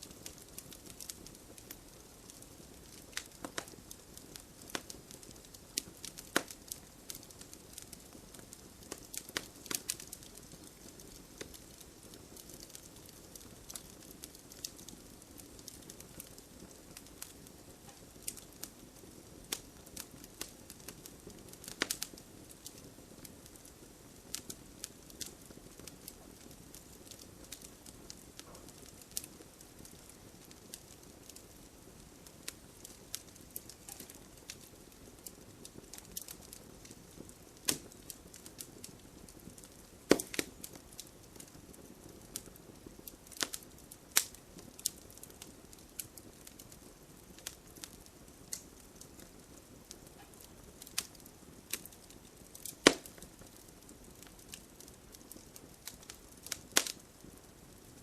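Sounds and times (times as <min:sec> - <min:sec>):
campfire crackling and popping: 0:00.0 - 0:58.0
soft steady fire hiss: 0:00.0 - 0:58.0.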